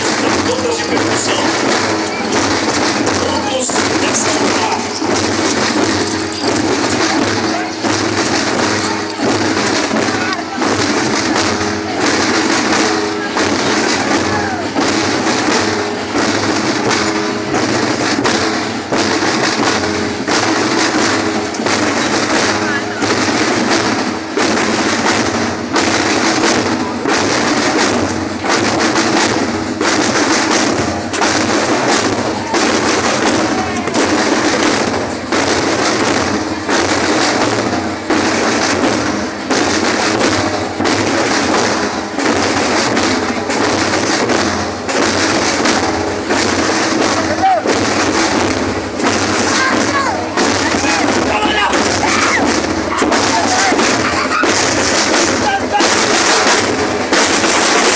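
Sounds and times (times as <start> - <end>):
marching drums playing: 0.0 - 57.9.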